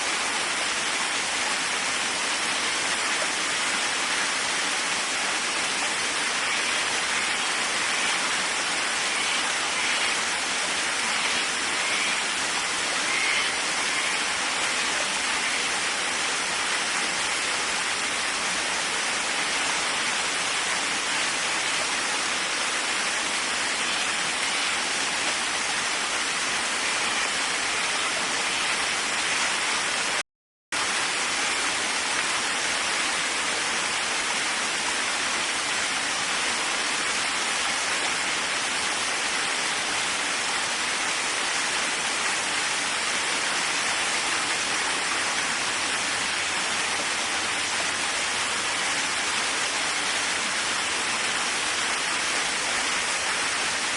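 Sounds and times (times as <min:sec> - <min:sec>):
waterfall rushing: 0:00.0 - 0:30.2, 0:30.8 - 0:53.9.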